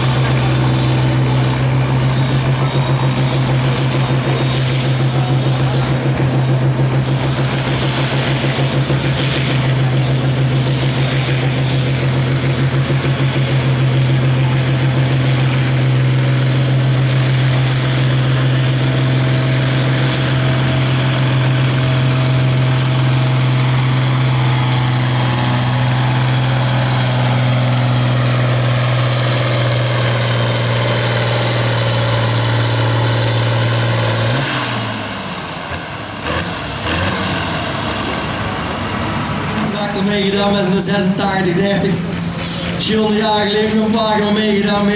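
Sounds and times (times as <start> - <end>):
tractor engine under full load: 0.0 - 44.9.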